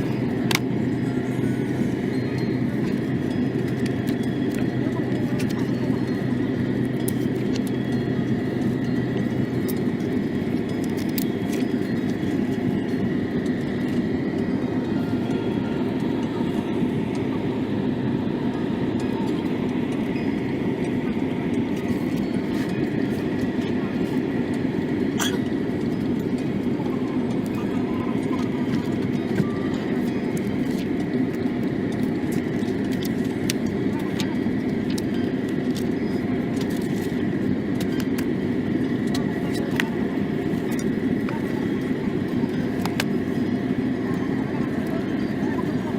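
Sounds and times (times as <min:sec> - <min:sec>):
airplane cabin rumble: 0:00.0 - 0:45.9
faint constant whine: 0:00.0 - 0:45.9.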